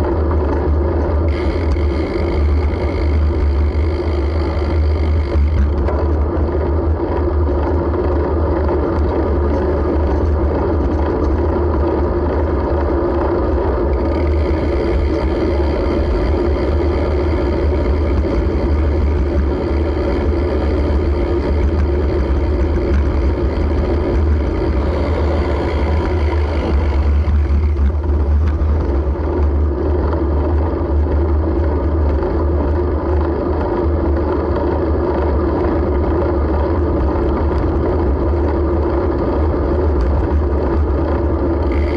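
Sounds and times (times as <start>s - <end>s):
road noise rumble: 0.0s - 41.9s.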